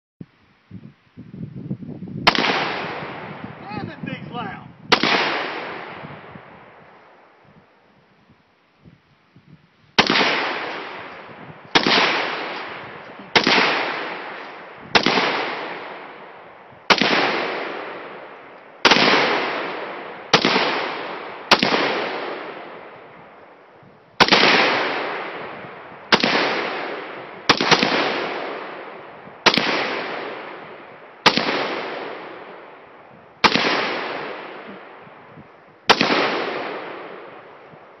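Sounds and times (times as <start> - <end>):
rifle shots echoing: 2.3 - 6.8, 10.0 - 23.5, 24.2 - 35.3, 35.9 - 37.8.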